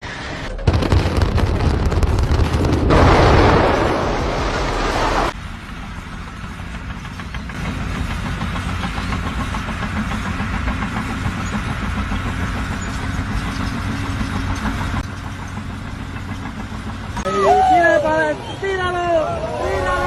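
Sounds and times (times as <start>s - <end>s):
engine humming: 0.1s - 20.0s.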